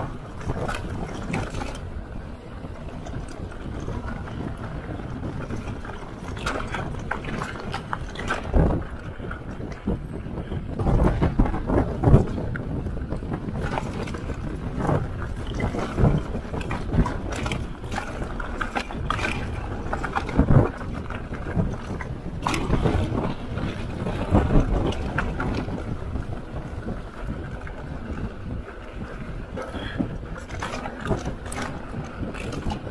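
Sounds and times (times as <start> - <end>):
mountain bike rattling over dirt: 0.0 - 32.9
wind buffeting microphone: 0.0 - 32.9.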